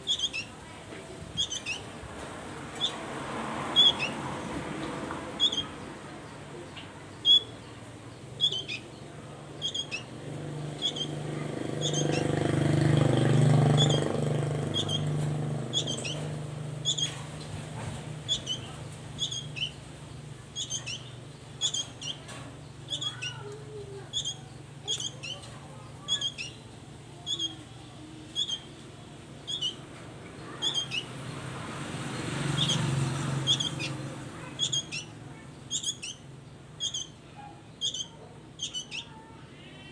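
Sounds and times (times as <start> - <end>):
vehicle passing: 0.0 - 37.2
songbird chirping: 0.0 - 39.9.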